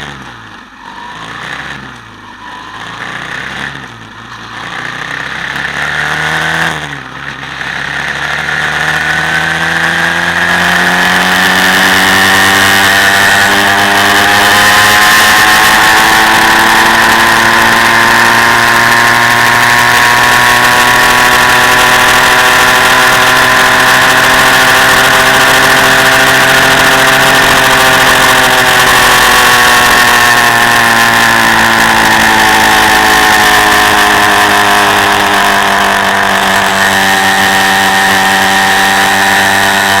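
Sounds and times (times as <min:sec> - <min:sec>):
quad bike engine running: 0:00.0 - 0:40.0.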